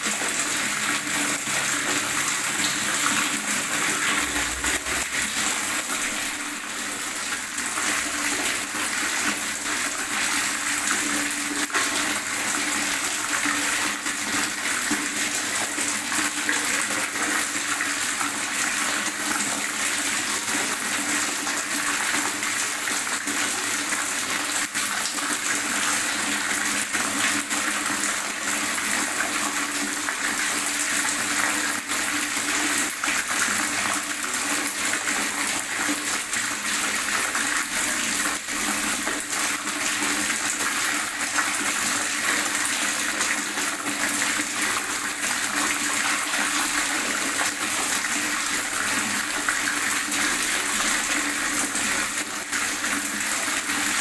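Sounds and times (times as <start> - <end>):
water gurgling and rushing: 0.0 - 54.0.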